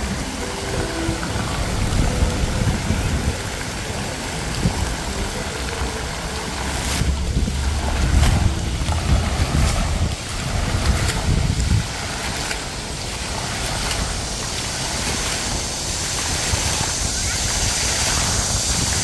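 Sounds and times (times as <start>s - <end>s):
heavy low rumble: 0.0s - 19.0s
steady hiss: 0.0s - 19.0s.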